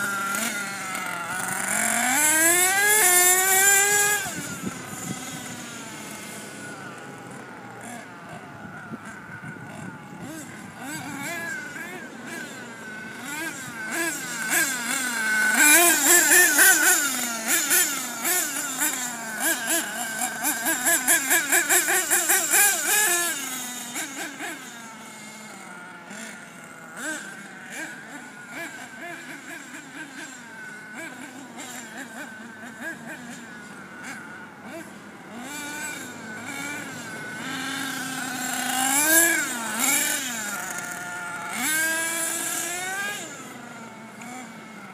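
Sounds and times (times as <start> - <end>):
small two-stroke engine revving: 0.0 - 44.9.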